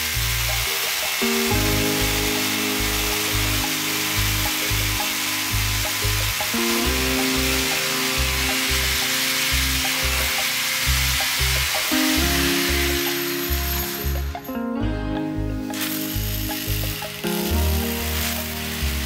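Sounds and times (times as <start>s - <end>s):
hammer drill boring into tile: 0.0s - 14.3s, 15.7s - 19.0s
background music with a steady beat: 0.0s - 19.0s.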